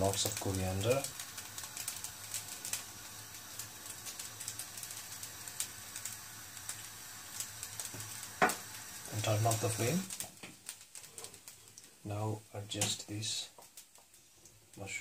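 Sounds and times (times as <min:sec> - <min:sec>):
rice crackling in a wok: 0:00.0 - 0:15.0.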